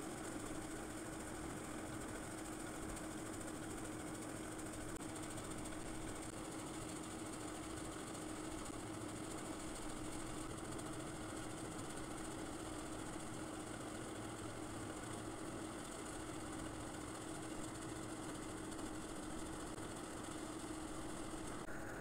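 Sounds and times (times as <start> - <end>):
machine hum with hiss: 0.0 - 22.0.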